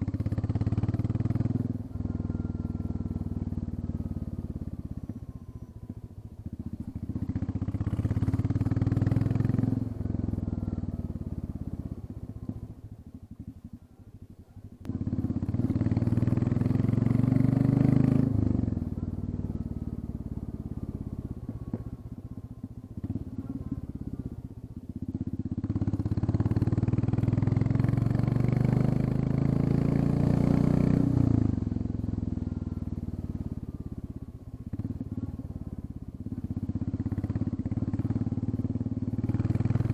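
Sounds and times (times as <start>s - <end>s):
motorcycle engine revving open exhaust: 0.0s - 39.9s.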